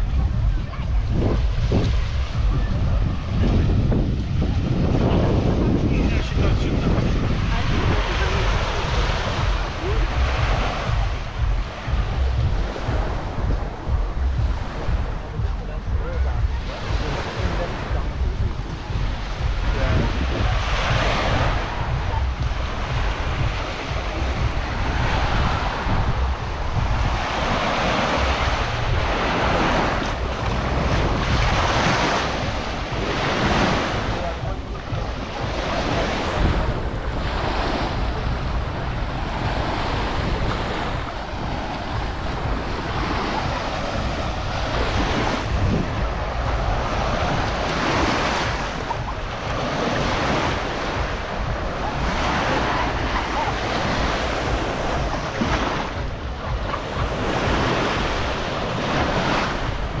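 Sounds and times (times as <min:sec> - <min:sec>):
small waves washing on sand: 0:00.0 - 1:00.0
wind buffeting microphone: 0:00.0 - 1:00.0.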